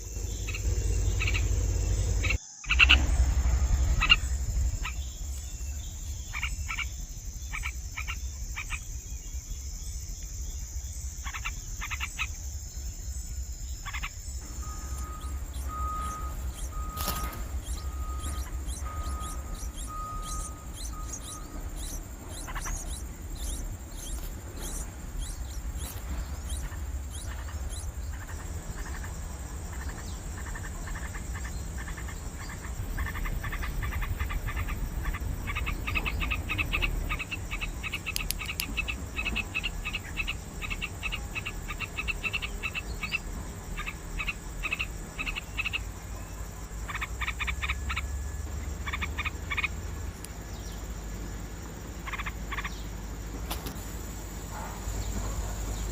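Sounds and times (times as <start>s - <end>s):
low rumble: 0.0s - 45.6s
nestlings chirping: 0.0s - 55.9s.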